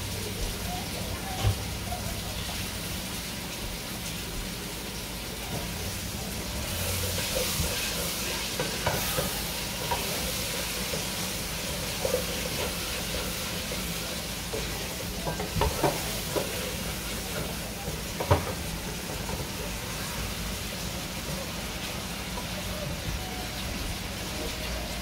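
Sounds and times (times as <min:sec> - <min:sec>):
potatoes sizzling in a pot: 0:00.0 - 0:25.0.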